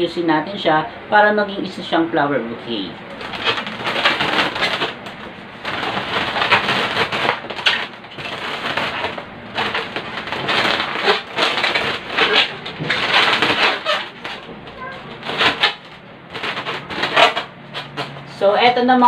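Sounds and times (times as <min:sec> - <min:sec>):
balloons squeaking: 0:02.8 - 0:18.5.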